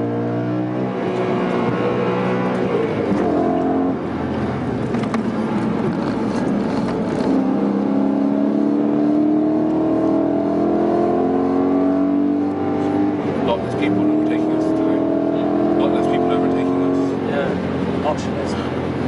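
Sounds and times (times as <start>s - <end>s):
car engine under load: 0.0s - 19.0s.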